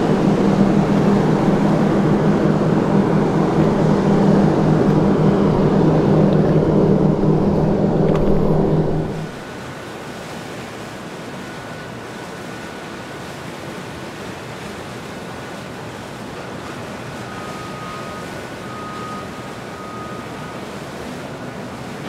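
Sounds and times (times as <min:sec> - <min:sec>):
open water noise: 0:00.0 - 0:22.0
wind: 0:00.0 - 0:22.0.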